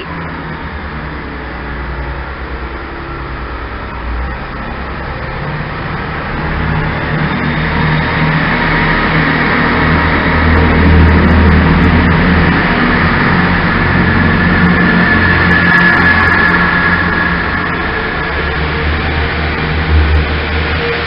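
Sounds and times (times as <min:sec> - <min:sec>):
diesel train engine droning: 0:00.0 - 0:21.0
moving train rumble: 0:00.0 - 0:21.0.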